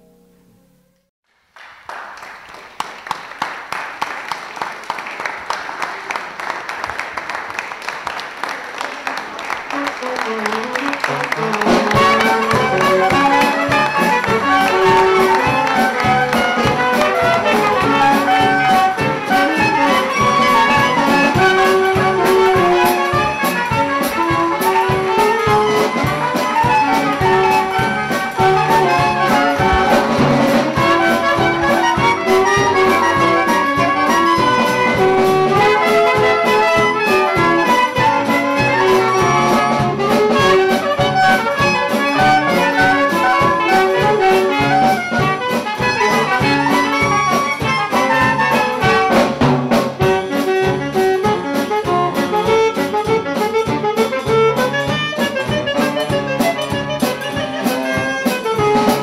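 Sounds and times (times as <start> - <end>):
jazz band with saxophones and brass: 5.0 - 59.0.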